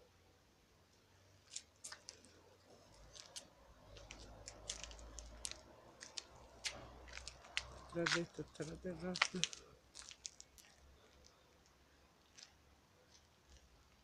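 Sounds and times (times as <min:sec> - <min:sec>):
sharp clicks and crackles: 0:01.5 - 0:14.0.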